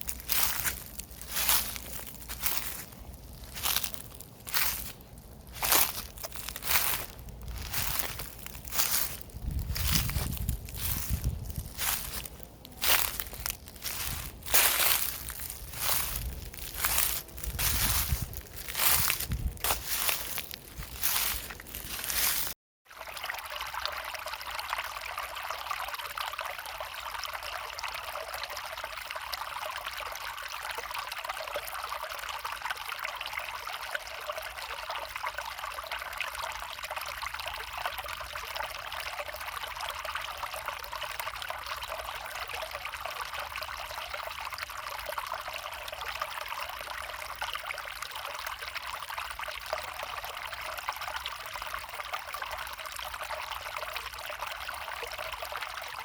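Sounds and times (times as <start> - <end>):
small stream trickling: 0.0 - 56.0.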